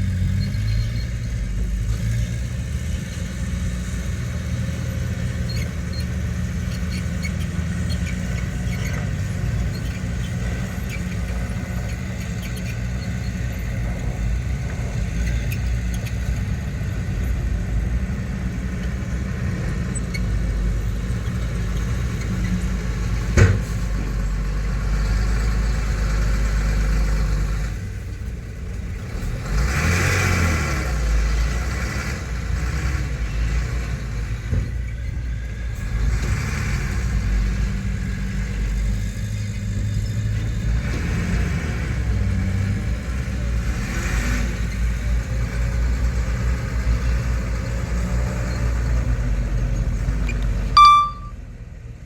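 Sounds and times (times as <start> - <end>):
diesel engine running: 0.0 - 51.3.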